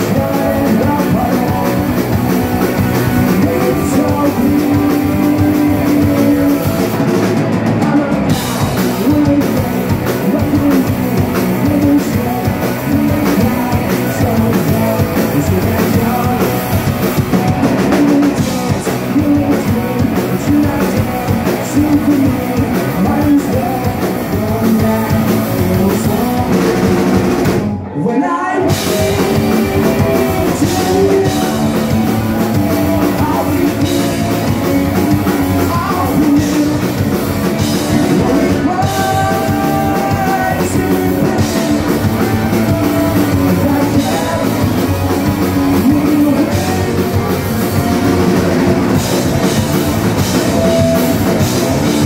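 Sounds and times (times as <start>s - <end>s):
person singing: 0.0s - 52.0s
punk rock band playing live: 0.0s - 52.0s.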